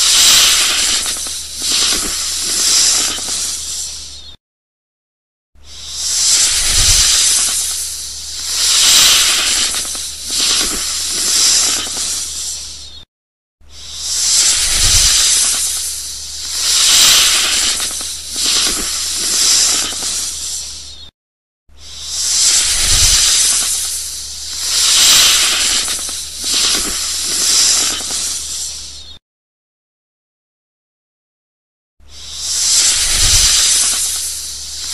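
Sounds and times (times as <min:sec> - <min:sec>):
snake hissing: 0:00.0 - 0:04.4, 0:05.6 - 0:21.1, 0:21.7 - 0:29.2, 0:32.0 - 0:34.9.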